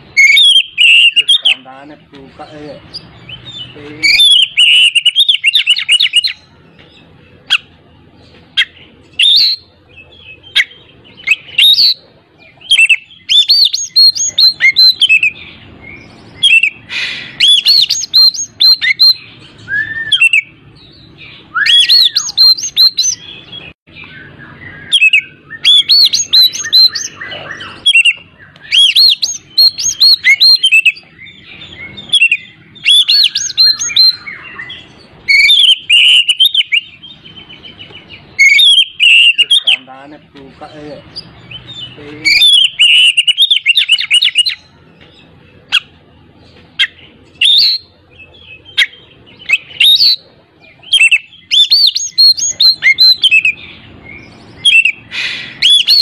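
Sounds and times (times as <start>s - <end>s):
magpie-robin singing: 0.0s - 56.0s.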